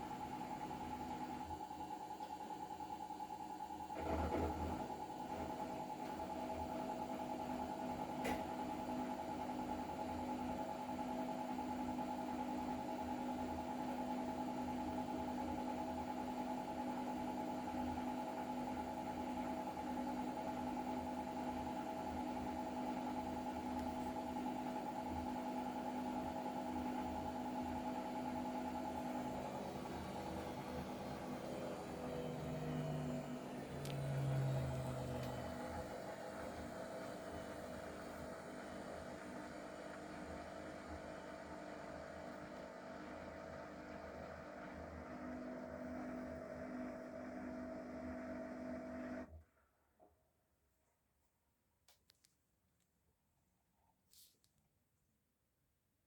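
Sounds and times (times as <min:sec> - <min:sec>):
washing machine spinning: 0:00.0 - 0:49.3.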